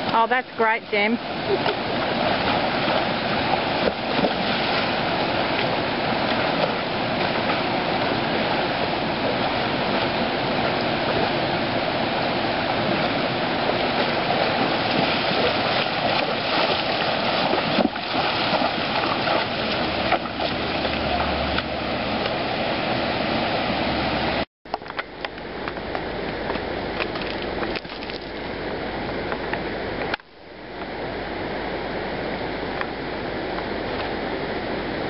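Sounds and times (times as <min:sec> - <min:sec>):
creek water running over rocks: 0:00.0 - 0:31.1.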